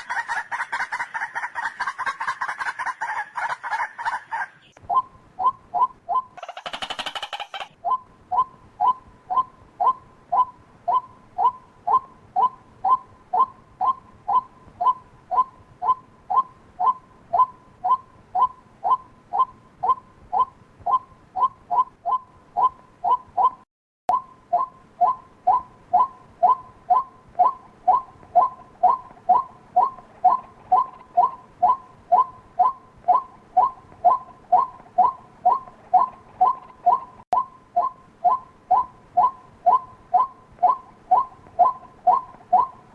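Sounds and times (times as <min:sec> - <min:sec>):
waterhen calling: 0:00.0 - 0:23.6, 0:24.5 - 0:37.2, 0:37.8 - 0:42.9.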